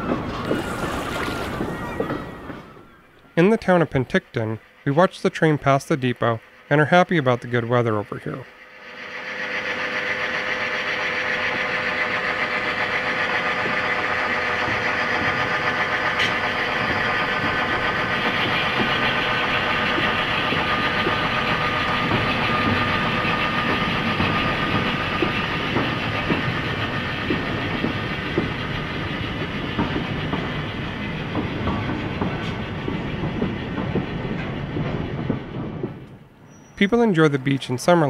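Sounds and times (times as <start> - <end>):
diesel engine drone: 0.0 - 38.0
train wheels clicking over rail joints: 0.0 - 38.0.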